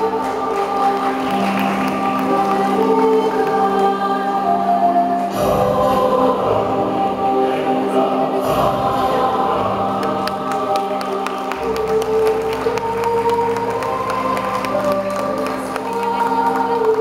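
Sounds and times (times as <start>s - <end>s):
children's choir singing: 0.0s - 17.0s
musical accompaniment: 0.0s - 17.0s.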